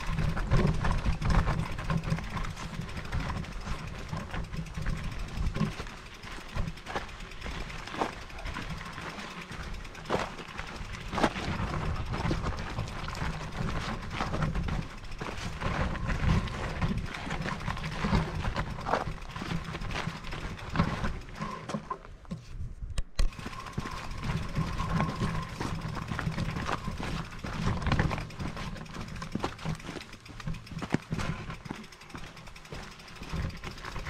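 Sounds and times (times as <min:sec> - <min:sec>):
bike rattling and knocking: 0:00.0 - 0:22.6, 0:23.2 - 0:34.0
bike rumbling over rough trail: 0:00.0 - 0:34.0.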